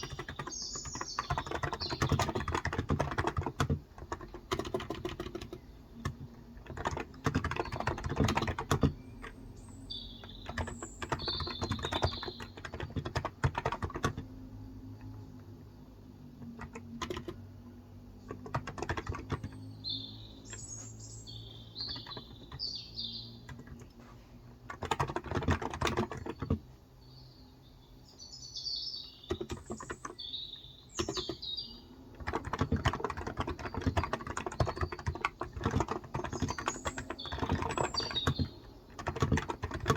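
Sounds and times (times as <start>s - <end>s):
birds chirping: 0.0s - 14.2s, 18.2s - 39.9s
keyboard typing: 0.0s - 26.8s, 29.2s - 30.3s, 30.9s - 39.9s.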